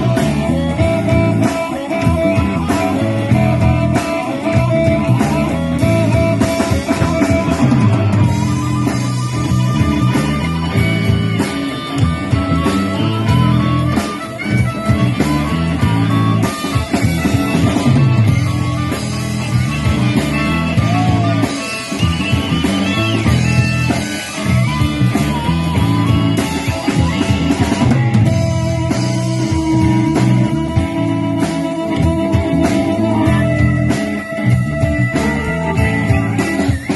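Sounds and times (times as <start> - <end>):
blues-rock band playing: 0.0 - 36.9
lead guitar: 0.0 - 36.9.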